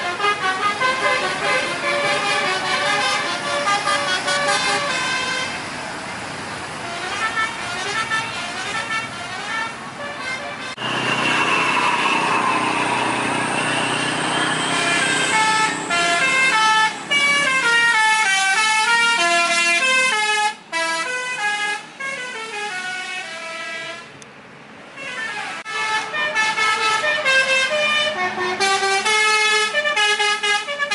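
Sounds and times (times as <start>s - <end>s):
multi-tone musical air horn: 0.0s - 5.6s, 6.9s - 24.1s, 25.0s - 30.9s.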